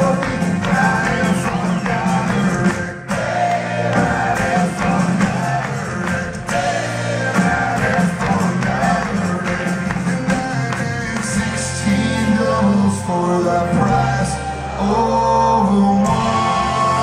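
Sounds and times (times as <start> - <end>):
man singing: 0.0 - 3.2, 3.8 - 17.0
drums: 0.0 - 17.0
electric bass: 0.0 - 17.0.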